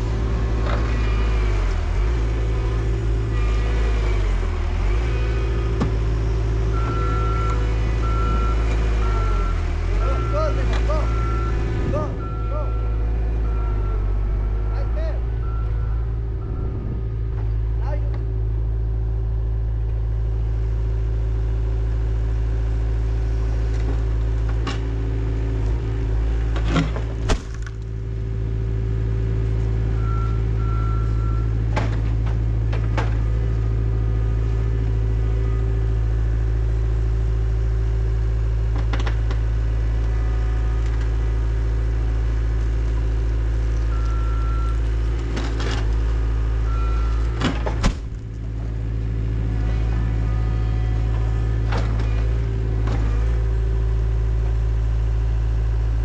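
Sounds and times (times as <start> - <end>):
heavy equipment engine running: 0.0 - 56.0.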